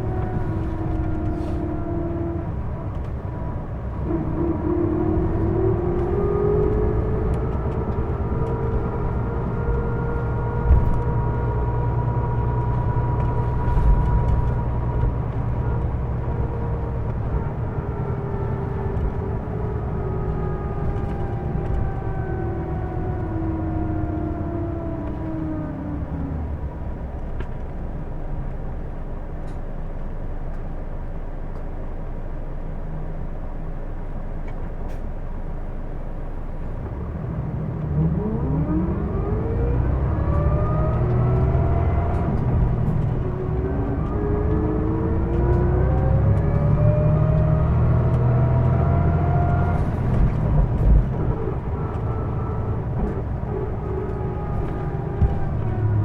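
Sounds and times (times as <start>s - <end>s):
bus whining noise: 0.0s - 28.0s, 34.8s - 56.0s
bus diesel engine rumble: 0.0s - 56.0s.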